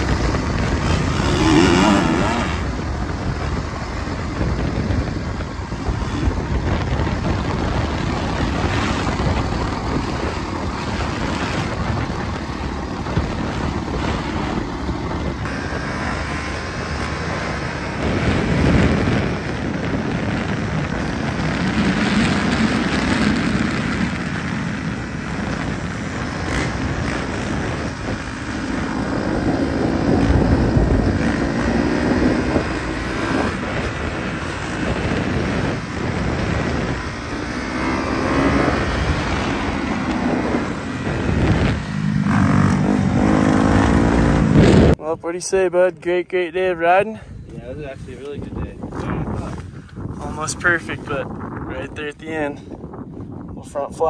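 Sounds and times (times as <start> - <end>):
dirt bike engines revving: 0.0 - 53.0
wind noise on microphone: 0.0 - 54.0.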